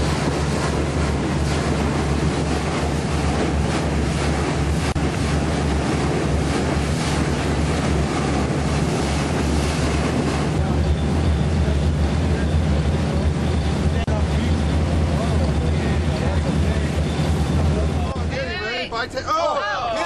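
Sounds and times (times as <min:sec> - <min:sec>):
boat engines droning: 0:00.0 - 0:20.0
rushing water: 0:00.0 - 0:20.0
wind: 0:00.0 - 0:20.0.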